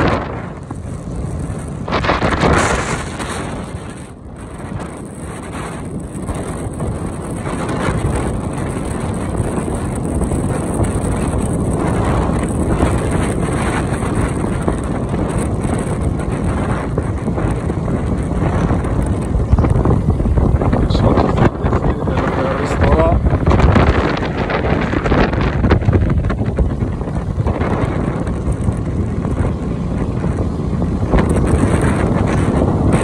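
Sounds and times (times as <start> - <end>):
motorbike road noise: 0.0 - 33.0
wind buffeting microphone: 0.0 - 33.0.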